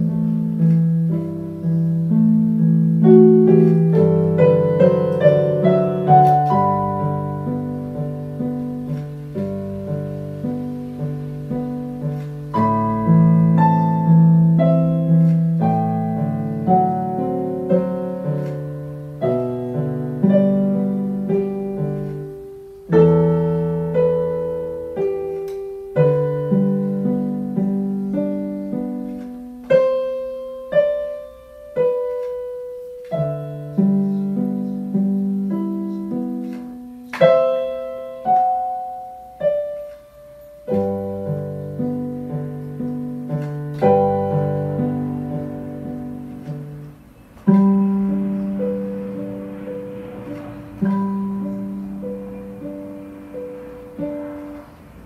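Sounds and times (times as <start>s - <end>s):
electronic keyboard piano: 0.0s - 55.0s.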